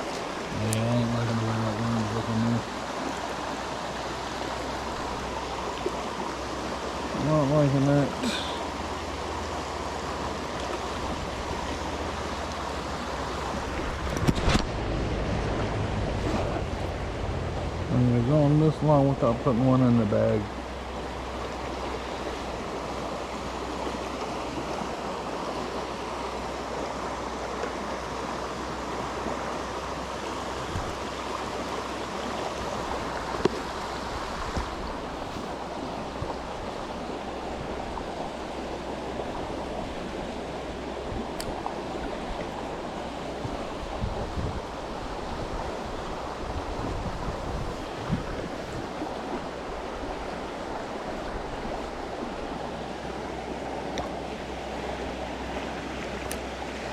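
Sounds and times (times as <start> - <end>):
creek water rushing: 0.0 - 56.9.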